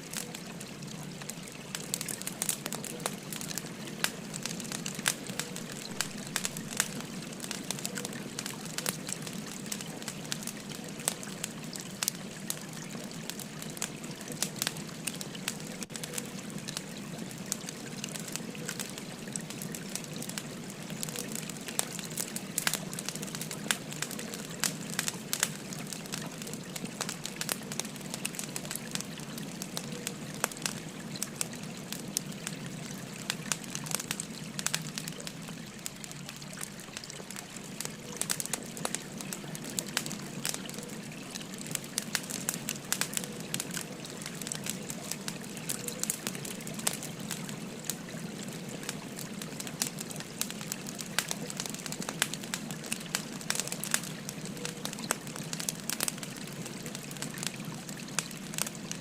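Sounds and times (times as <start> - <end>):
firewood crackling and popping: 0.0 - 59.0
stream babbling: 0.0 - 59.0.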